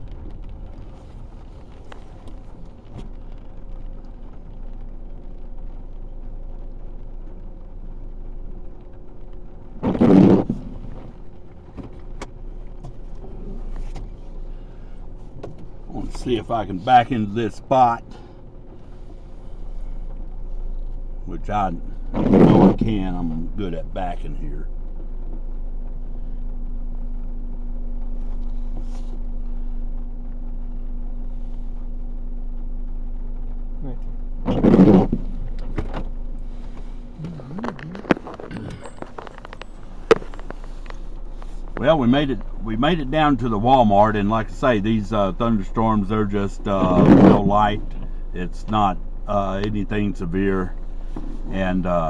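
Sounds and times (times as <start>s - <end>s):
road rumble in car cabin: 0.0s - 52.0s.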